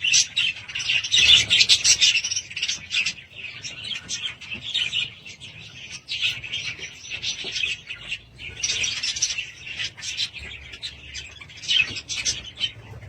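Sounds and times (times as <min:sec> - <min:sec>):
budgerigars chattering and warbling: 0:00.0 - 0:13.0.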